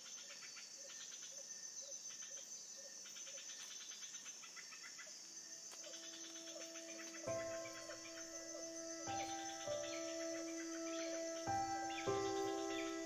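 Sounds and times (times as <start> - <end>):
insect chorus drone with trills: 0.0 - 13.0.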